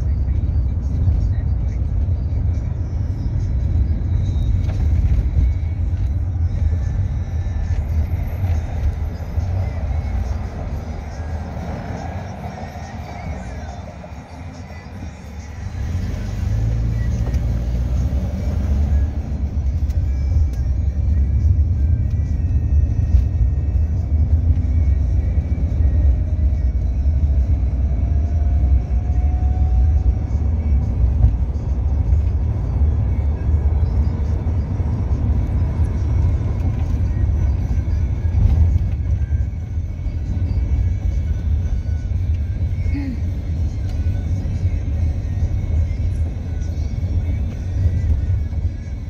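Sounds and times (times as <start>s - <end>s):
road and engine rumble in car: 0.0s - 49.0s.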